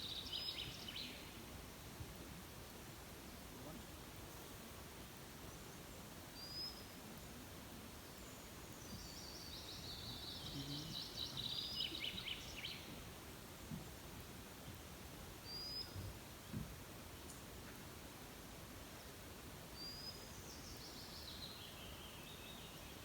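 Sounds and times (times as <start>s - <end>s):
outdoor hiss: 0.0s - 23.0s.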